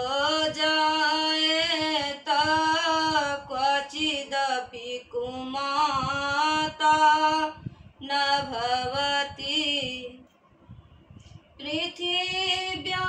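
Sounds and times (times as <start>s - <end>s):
woman chanting a prayer: 0.0s - 10.2s, 11.6s - 13.0s.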